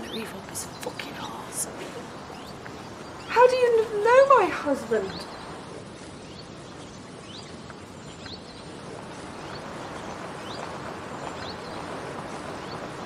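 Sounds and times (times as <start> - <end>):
background hiss: 0.0 - 13.0
small bird chirping: 0.0 - 13.0.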